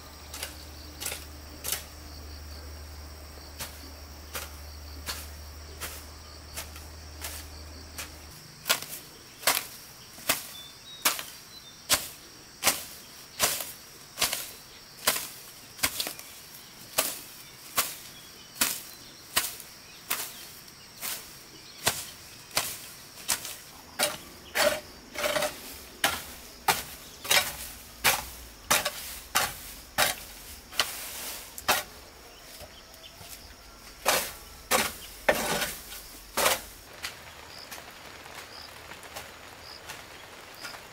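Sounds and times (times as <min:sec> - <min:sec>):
high drone of insects: 0:00.0 - 0:40.9.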